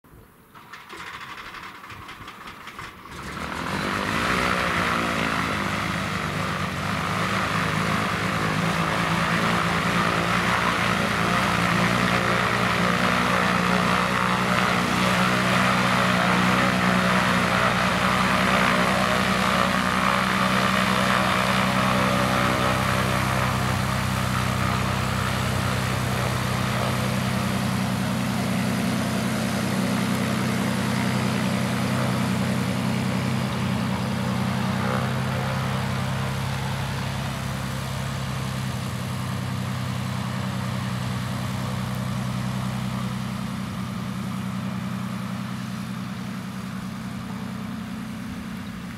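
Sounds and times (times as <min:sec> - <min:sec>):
light aircraft engine and propeller: 0:00.5 - 0:48.9.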